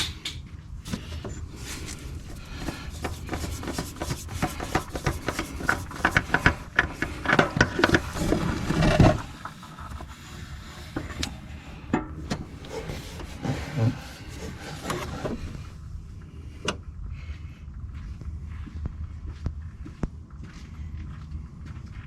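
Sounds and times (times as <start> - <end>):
steady low hum: 0.1 - 22.0.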